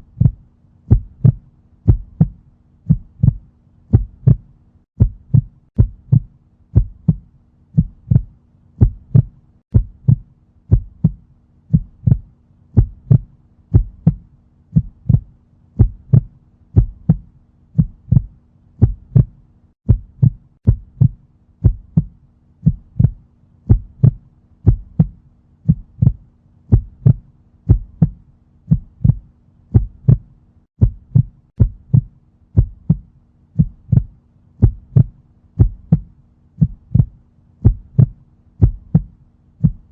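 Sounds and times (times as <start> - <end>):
heartbeat double thumps: 0.0 - 39.9.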